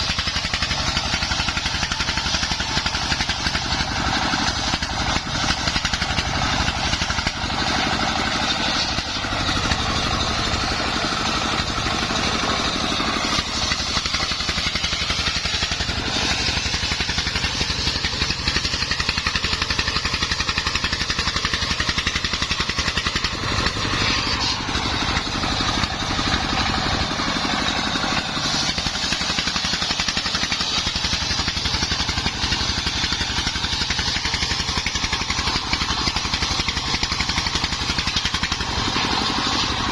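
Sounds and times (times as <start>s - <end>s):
circular saw cutting timber: 0.0s - 39.9s.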